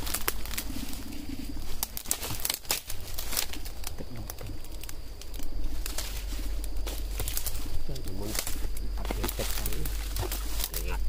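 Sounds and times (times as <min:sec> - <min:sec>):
dry leaves and twigs crackling: 0:00.0 - 0:11.0.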